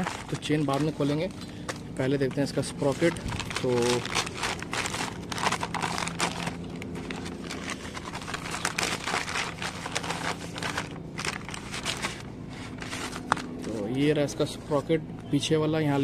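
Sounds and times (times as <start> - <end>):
packaging crinkling and rustling: 0.0 - 1.8, 2.4 - 14.1.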